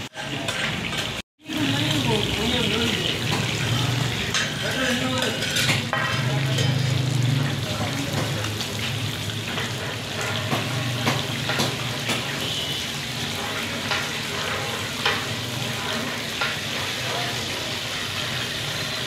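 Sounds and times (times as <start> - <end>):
metal skimmer scraping a pan: 0.0 - 1.2, 3.0 - 19.0
fish deep-frying in oil: 0.0 - 19.0.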